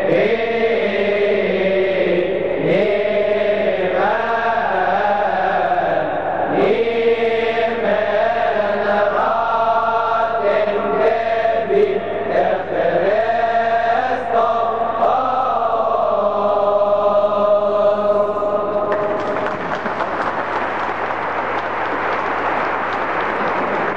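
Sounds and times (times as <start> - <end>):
male choir chanting: 0.0 - 20.2.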